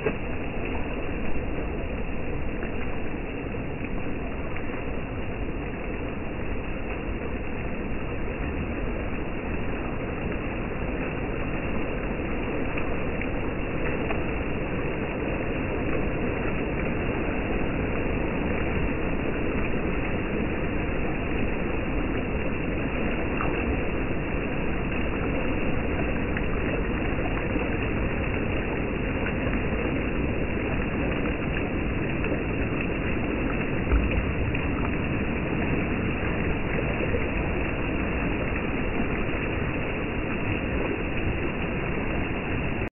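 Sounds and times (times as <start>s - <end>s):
surf waves breaking: 0.0s - 42.9s.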